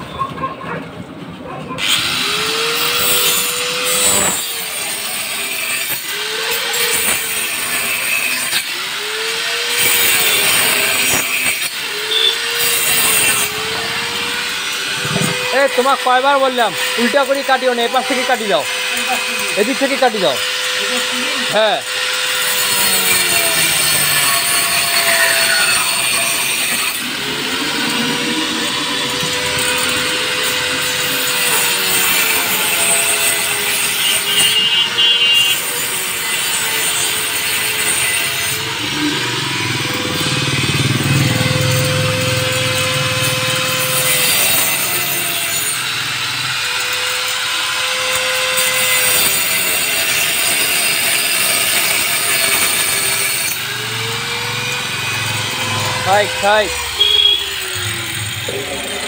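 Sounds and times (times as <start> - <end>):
power tool cutting wood: 1.8 - 59.0.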